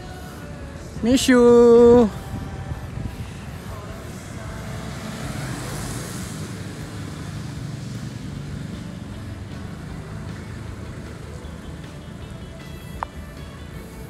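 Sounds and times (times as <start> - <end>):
rumble of city traffic: 0.0 - 14.0
vehicle passing: 1.7 - 14.0.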